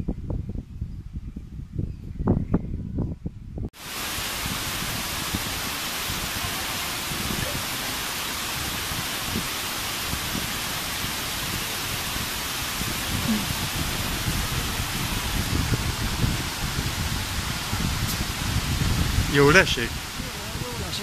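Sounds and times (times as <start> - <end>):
heavy rain: 3.8 - 21.0.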